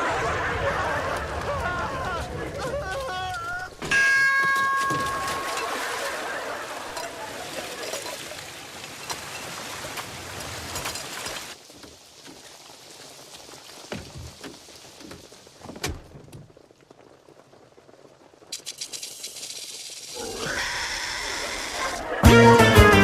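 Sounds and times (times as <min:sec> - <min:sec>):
heavy rain pouring: 0:00.0 - 0:03.9, 0:04.6 - 0:23.0
light rain patter: 0:00.0 - 0:23.0.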